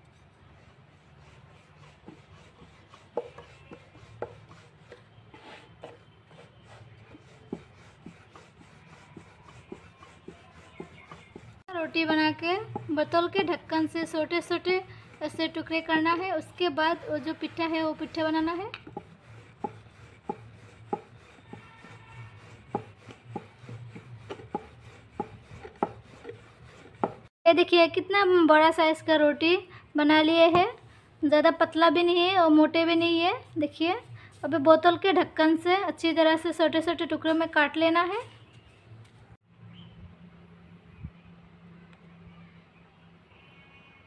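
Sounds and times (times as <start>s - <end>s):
rolling pin rubbing dough: 0.0s - 27.3s, 30.1s - 39.2s.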